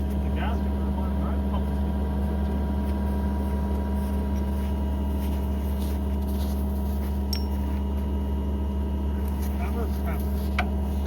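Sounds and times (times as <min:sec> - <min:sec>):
engine idling hum: 0:00.0 - 0:11.0.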